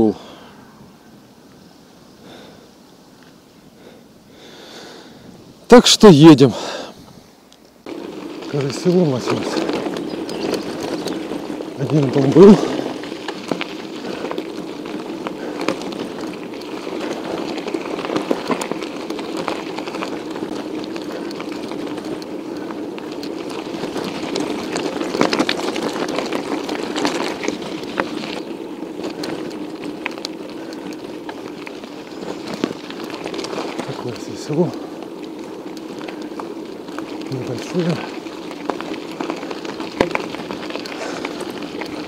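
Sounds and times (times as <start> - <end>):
bicycle tyres rolling on road: 0.0 - 42.0
small clicks and rattles: 7.5 - 42.0.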